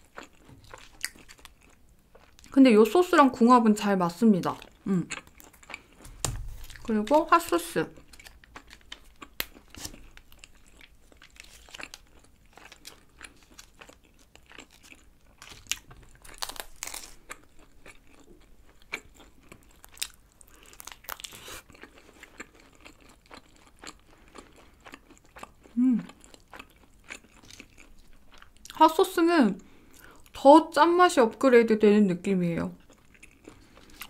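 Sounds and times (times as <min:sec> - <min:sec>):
chewing pizza with crunches: 0:00.0 - 0:02.6, 0:04.5 - 0:28.8, 0:32.8 - 0:34.0.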